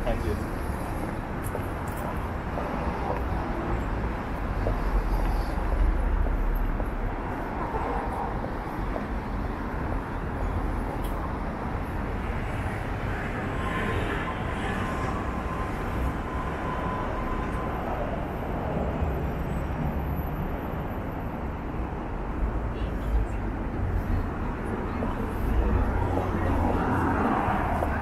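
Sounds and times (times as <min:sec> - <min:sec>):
rumble of passing vehicles: 0:00.0 - 0:28.0.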